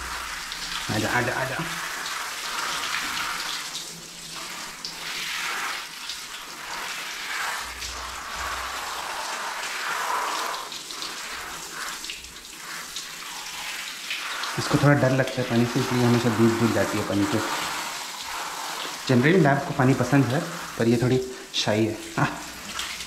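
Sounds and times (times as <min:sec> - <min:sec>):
shower water spraying: 0:00.0 - 0:23.0.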